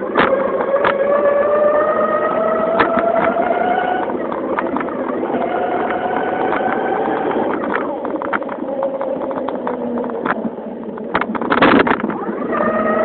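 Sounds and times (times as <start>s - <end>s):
motorised bicycle engine buzz: 0.0s - 13.0s.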